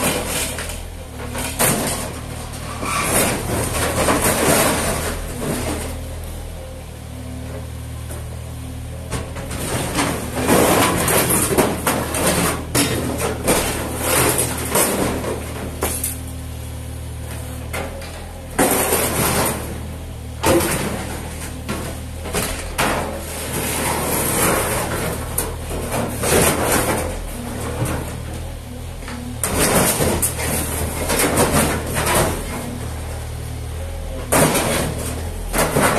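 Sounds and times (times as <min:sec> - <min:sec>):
debris crashing and clattering: 0:00.0 - 0:06.0, 0:09.1 - 0:16.2, 0:17.7 - 0:33.5, 0:34.2 - 0:35.9
diesel engine running: 0:00.0 - 0:35.9.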